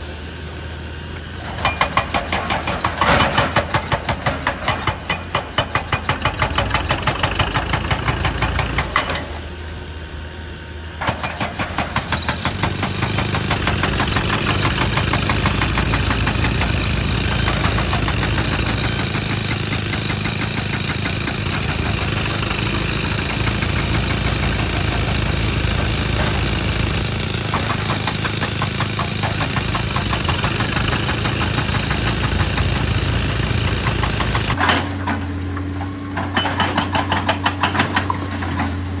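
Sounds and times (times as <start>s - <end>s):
excavator engine running: 0.0s - 39.0s
hydraulic breaker hammering rock: 1.3s - 9.6s, 11.0s - 35.4s, 36.1s - 38.9s.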